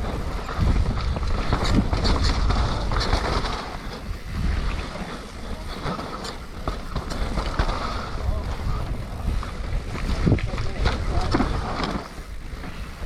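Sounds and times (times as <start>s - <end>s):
bike clicks and rattles: 0.0s - 13.0s
tyres on wet dirt: 0.0s - 13.0s
wind buffeting microphone: 0.0s - 13.0s.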